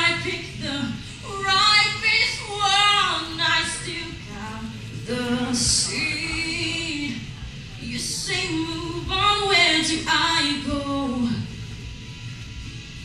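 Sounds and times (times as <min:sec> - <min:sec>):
woman singing slow melody: 0:00.0 - 0:11.5.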